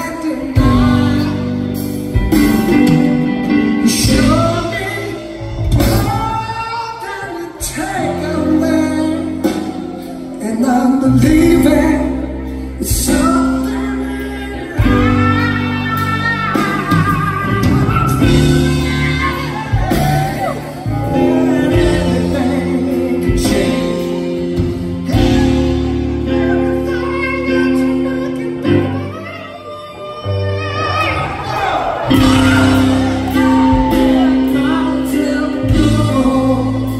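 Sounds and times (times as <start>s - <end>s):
bass line: 0.0s - 36.9s
keyboard chords: 0.0s - 36.9s
man singing: 0.0s - 36.9s.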